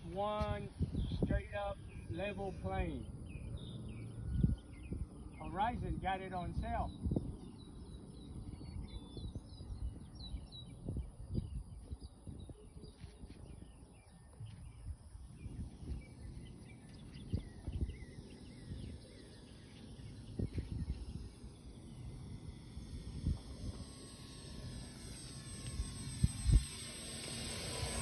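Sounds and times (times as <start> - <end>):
birds chirping: 0.0 - 28.0
distant high motor whine: 0.0 - 28.0
wind buffeting microphone: 0.0 - 28.0.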